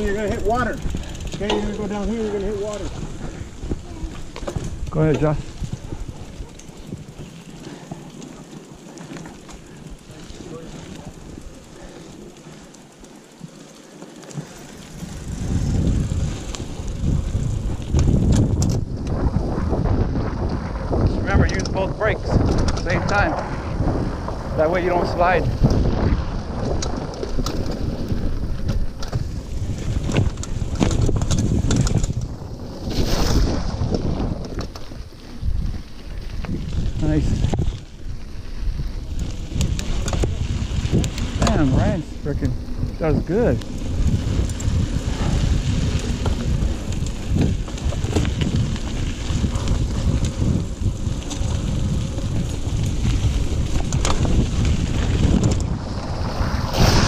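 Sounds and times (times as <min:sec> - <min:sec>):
wind buffeting microphone: 0:00.0 - 0:12.6, 0:14.7 - 0:57.0
bike clicks and knocks: 0:00.0 - 0:56.1
mountain bike rumbling on dirt trail: 0:00.0 - 0:57.0.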